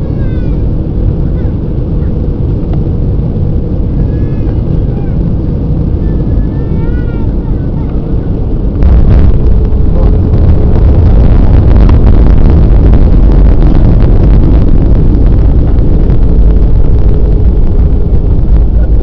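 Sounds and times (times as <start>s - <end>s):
airliner engines and runway rumble: 0.0s - 19.0s.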